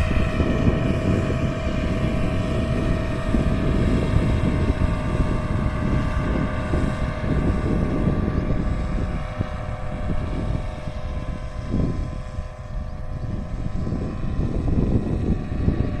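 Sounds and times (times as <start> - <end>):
paramotor engine droning: 0.0 - 16.0
wind buffeting microphone: 0.0 - 16.0.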